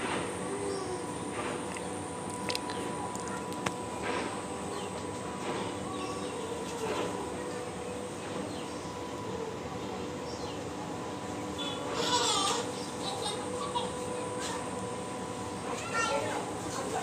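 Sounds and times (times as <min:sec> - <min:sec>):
faint constant hum: 0:00.0 - 0:17.0.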